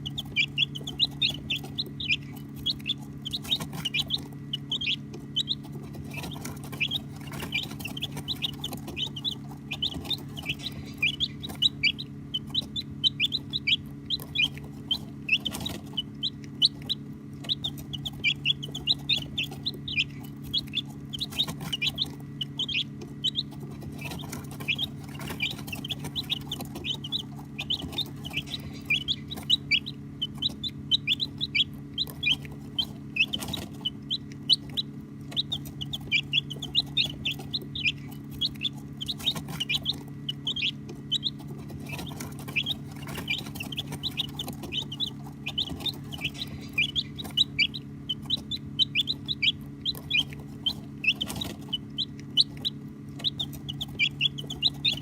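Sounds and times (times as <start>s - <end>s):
baby chicks peeping: 0.0s - 55.0s
low hum: 0.0s - 55.0s.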